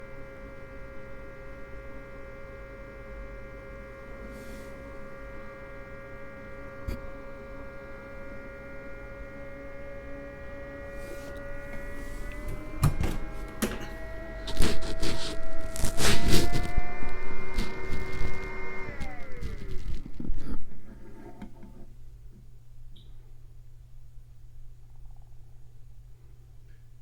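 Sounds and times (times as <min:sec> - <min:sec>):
power station electrical hum: 0:00.0 - 0:27.0.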